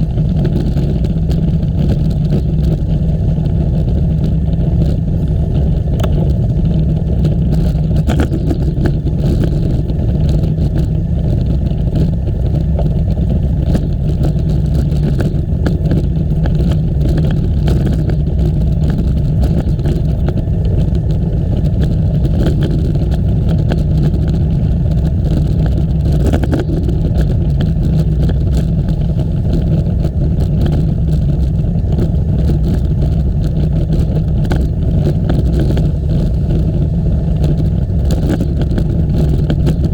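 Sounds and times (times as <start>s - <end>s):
bicycle clicks and rattles: 0.0s - 39.9s
wind rumble on microphone: 0.0s - 39.9s.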